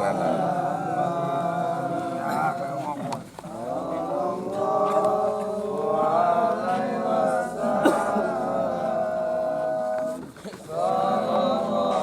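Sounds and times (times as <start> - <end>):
person chanting: 0.0 - 12.0.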